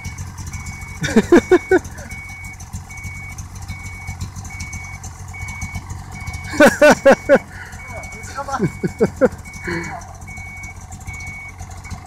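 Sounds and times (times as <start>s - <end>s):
reverse warning beeper: 0.0s - 12.0s
snowmobile idling: 0.0s - 12.0s.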